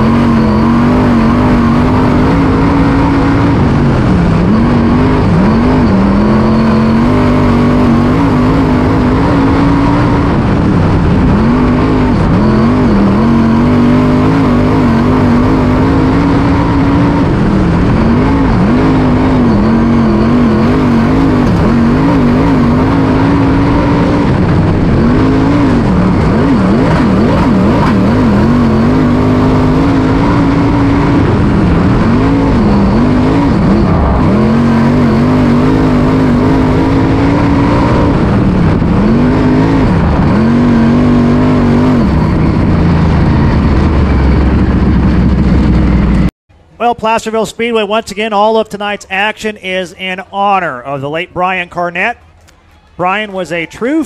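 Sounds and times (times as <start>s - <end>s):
race car engine revving: 0.0s - 46.3s.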